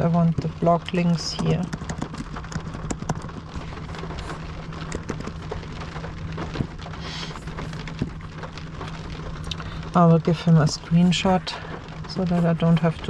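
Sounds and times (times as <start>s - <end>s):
rain on car roof: 0.0s - 13.0s
steady low hum: 0.0s - 13.0s.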